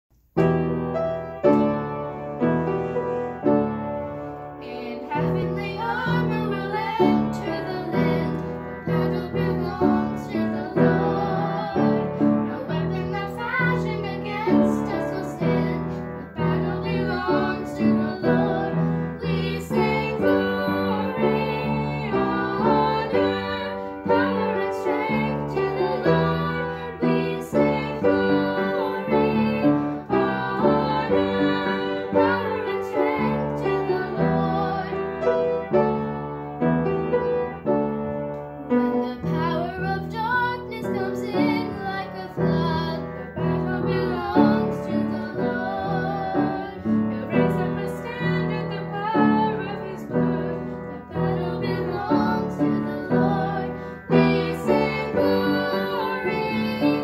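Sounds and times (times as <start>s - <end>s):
upright piano playing: 0.2s - 57.0s
girls singing together: 4.6s - 36.2s, 38.7s - 57.0s.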